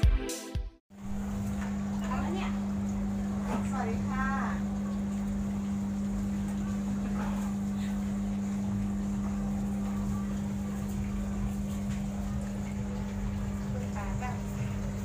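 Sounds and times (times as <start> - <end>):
machine hum: 0.9 - 15.0.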